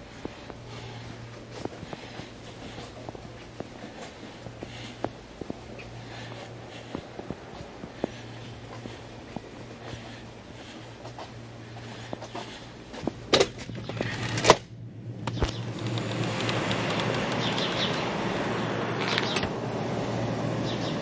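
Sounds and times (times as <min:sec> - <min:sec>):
outdoor noise hiss: 0:00.0 - 0:21.0.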